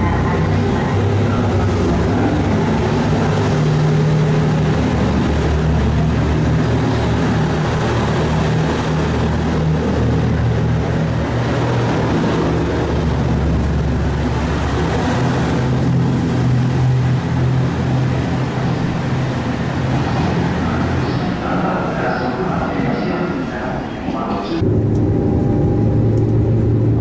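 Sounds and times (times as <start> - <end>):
low engine drone: 0.0 - 27.0
train rolling noise: 0.0 - 27.0.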